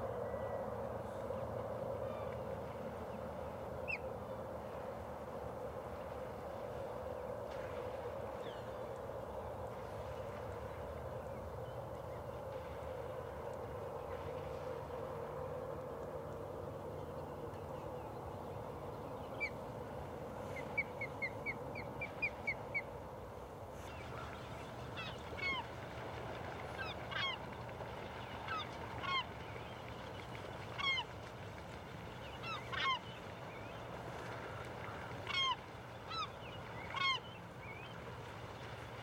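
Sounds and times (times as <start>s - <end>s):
steady background hum: 0.0s - 39.0s.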